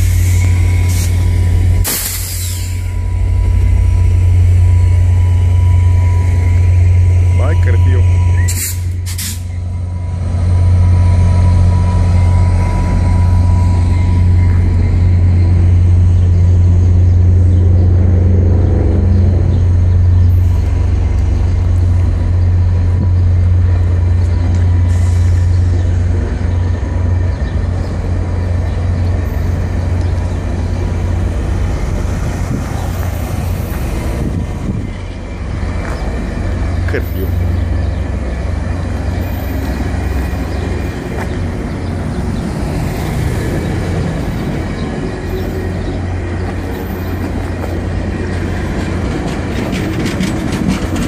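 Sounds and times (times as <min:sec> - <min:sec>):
diesel train locomotive drone: 0:00.0 - 0:51.0.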